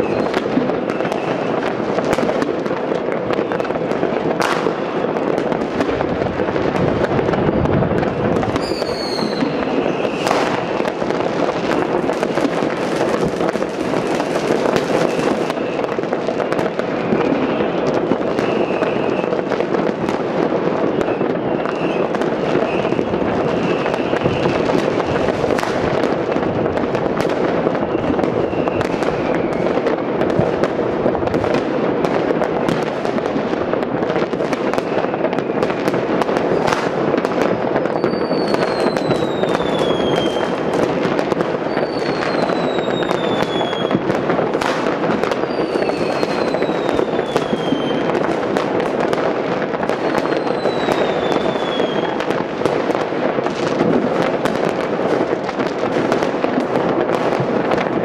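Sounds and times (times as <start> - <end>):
falling firework whistles: 0.0 - 2.6, 4.4 - 26.2, 26.8 - 30.8, 33.8 - 54.9
distant fireworks crackling and banging: 0.0 - 58.0.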